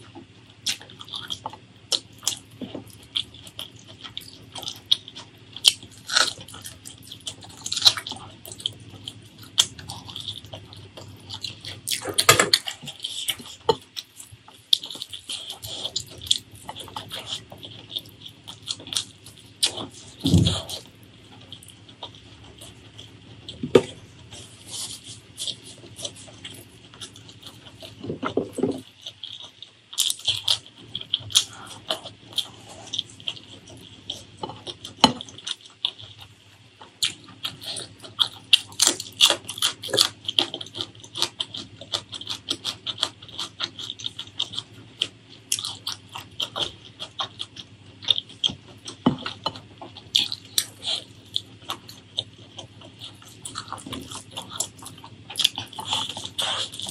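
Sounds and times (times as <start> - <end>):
chewing and mouth clicks: 0.1 - 56.9.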